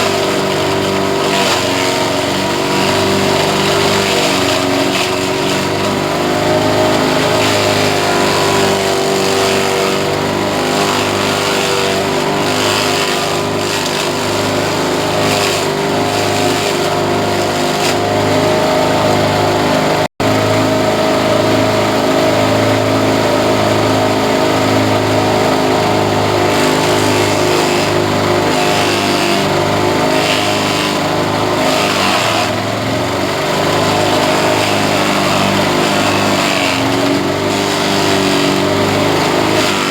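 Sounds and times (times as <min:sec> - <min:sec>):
grass chopper engine running: 0:00.0 - 0:39.9.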